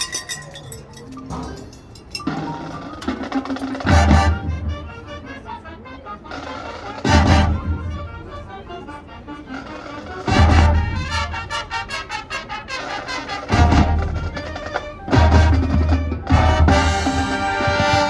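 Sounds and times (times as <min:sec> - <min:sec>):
marching band playing: 0:01.2 - 0:18.0.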